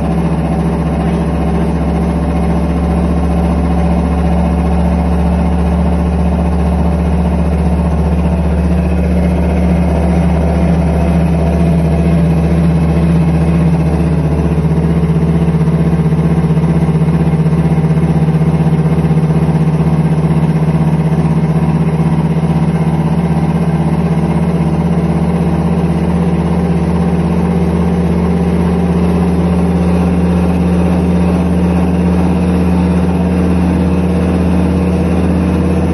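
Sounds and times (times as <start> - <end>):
washing machine droning: 0.0 - 35.9.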